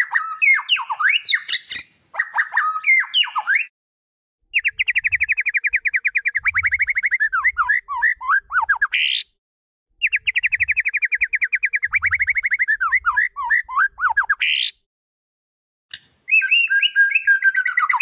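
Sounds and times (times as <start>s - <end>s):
songbird singing: 0.0s - 3.7s, 4.6s - 8.9s, 10.0s - 14.7s, 15.9s - 18.0s.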